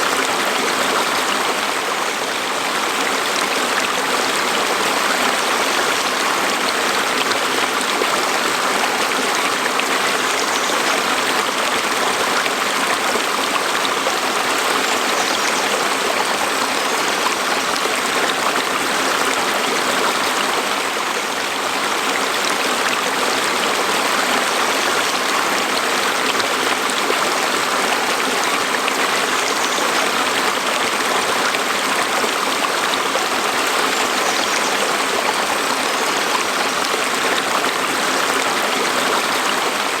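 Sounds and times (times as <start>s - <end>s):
water flowing over rocks: 0.0s - 40.0s.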